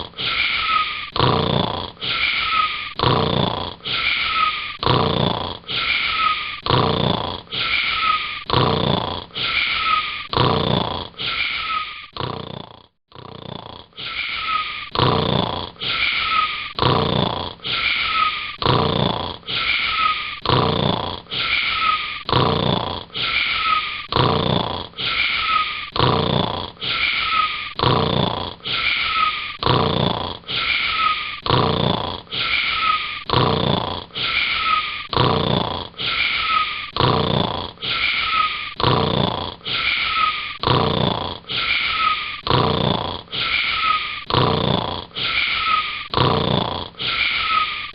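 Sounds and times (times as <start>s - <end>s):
cartoon snoring with whistle: 0.0s - 47.9s.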